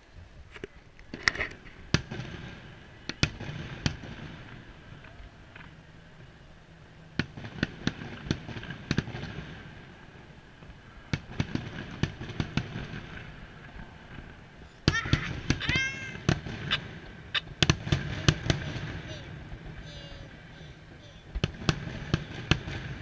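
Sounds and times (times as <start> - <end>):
fireworks bangs and crackles: 1.1 - 6.3, 7.1 - 23.0.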